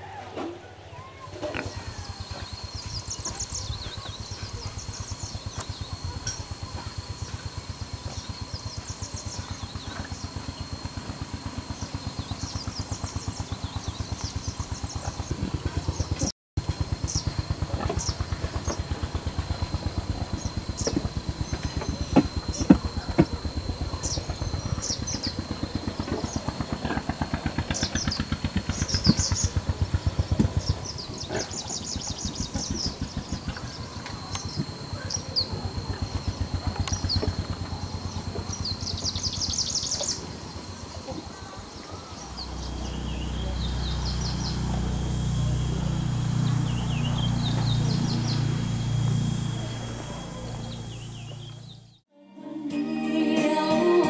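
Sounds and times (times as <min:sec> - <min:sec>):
low hum with high tone: 0:00.0 - 0:54.0
birds chirping: 0:00.9 - 0:52.0
small engine running: 0:01.0 - 0:52.1.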